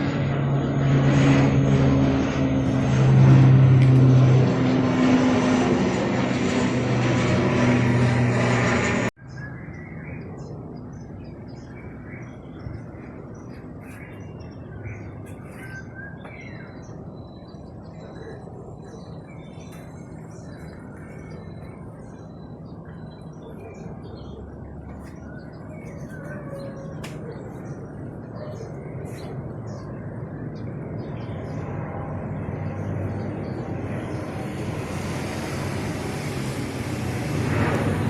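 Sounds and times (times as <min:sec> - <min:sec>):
aircraft engine drone: 0:00.0 - 0:38.0
birds chirping: 0:03.9 - 0:38.0.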